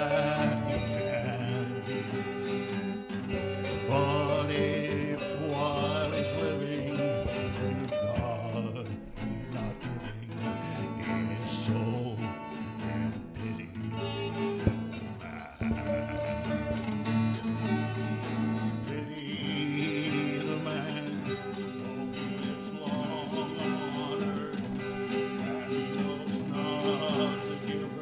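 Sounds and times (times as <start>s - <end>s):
man singing: 0.0s - 28.0s
strummed acoustic guitar: 0.0s - 28.0s.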